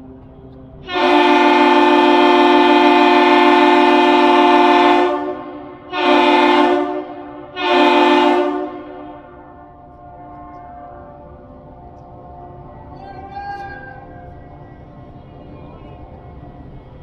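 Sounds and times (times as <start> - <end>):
ship horn blasts: 0.8 - 16.1.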